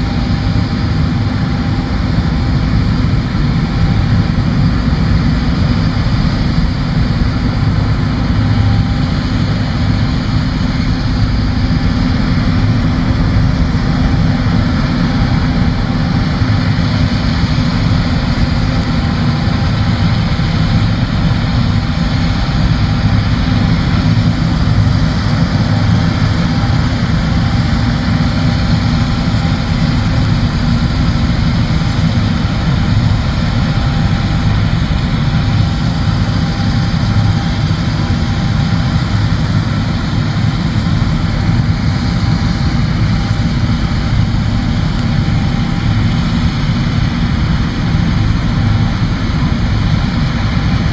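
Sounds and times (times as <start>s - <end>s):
combine harvester engine drone: 0.0s - 50.9s.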